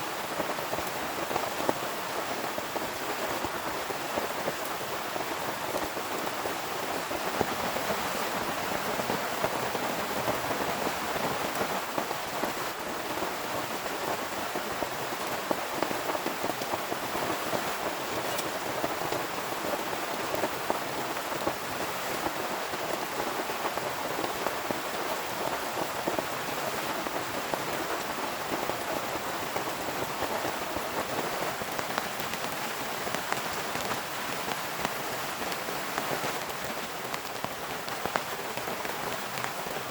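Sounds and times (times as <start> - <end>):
heavy rain falling: 0.0 - 39.9
raindrops ticking on a surface: 0.1 - 39.9.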